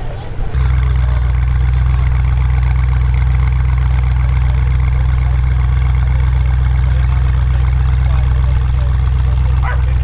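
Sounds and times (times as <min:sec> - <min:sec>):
car engine idling: 0:00.1 - 0:10.0.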